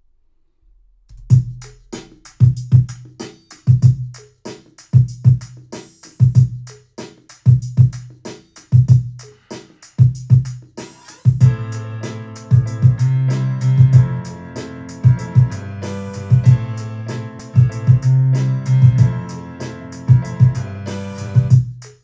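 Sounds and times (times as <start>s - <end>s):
drum machine loop: 1.2s - 22.0s.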